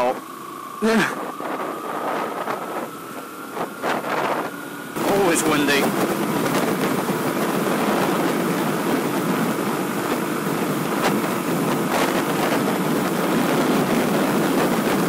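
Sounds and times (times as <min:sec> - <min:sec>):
motorcycle engine and tyres on wet road: 0:00.0 - 0:15.0
wind rushing over microphone: 0:00.0 - 0:15.0.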